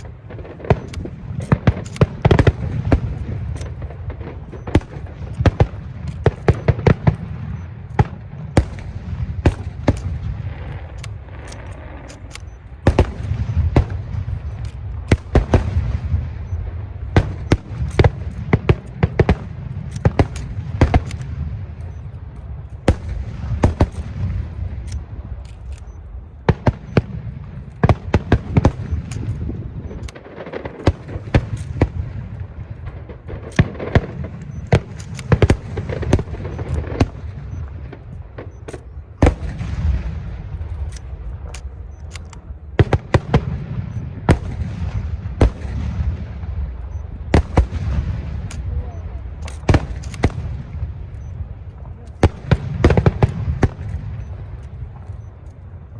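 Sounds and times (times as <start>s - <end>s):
fireworks bangs and pops: 0.0s - 25.4s, 26.4s - 42.0s, 42.7s - 55.9s.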